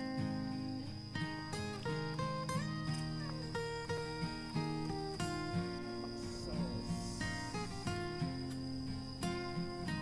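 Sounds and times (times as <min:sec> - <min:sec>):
acoustic guitar music: 0:00.0 - 0:10.0
cricket trill: 0:00.0 - 0:10.0.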